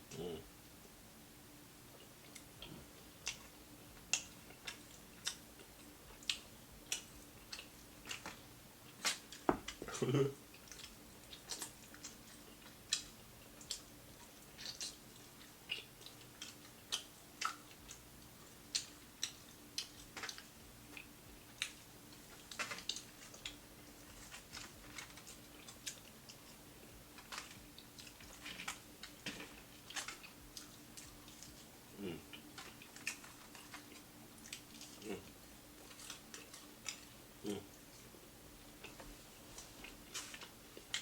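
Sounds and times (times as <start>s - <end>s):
faint steady hum: 0.0s - 41.0s
crunchy food chewing: 1.9s - 41.0s.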